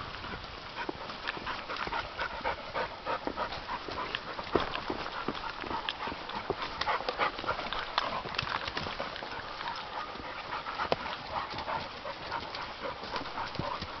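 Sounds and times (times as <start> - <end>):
footsteps on leaves and wooden steps: 0.0 - 14.0
dog panting: 0.2 - 14.0.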